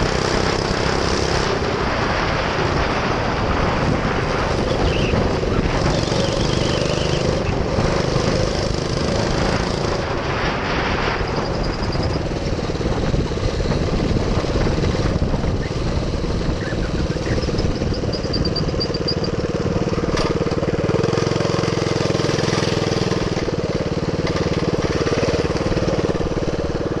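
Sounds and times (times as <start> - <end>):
minibike engine running: 0.0 - 27.0.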